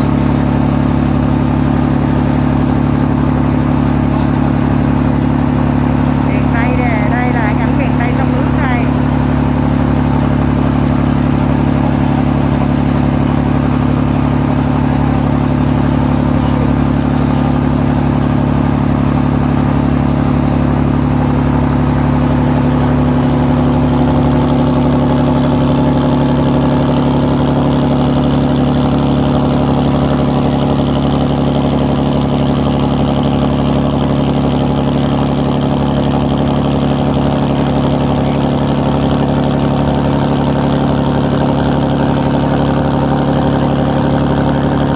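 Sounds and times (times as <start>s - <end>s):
ferry engine droning: 0.0s - 44.9s.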